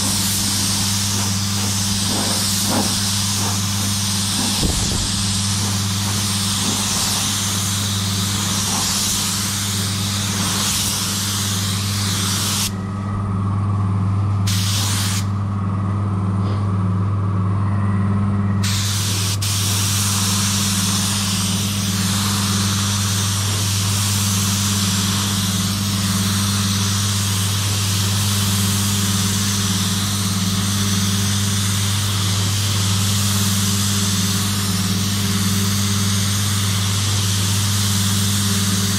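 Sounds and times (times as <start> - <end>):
spray gun hissing: 0.0 - 12.7, 14.5 - 15.3, 18.6 - 38.9
low machine hum: 0.0 - 38.9.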